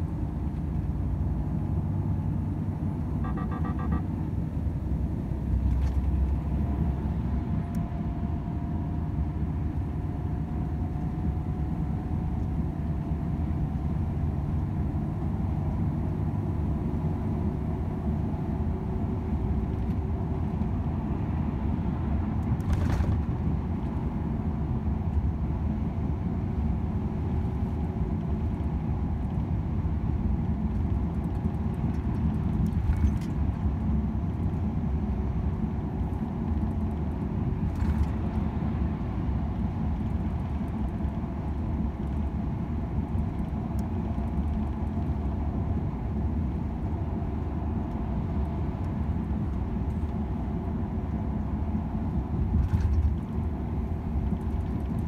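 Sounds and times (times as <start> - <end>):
road noise rumble: 0.0 - 55.0.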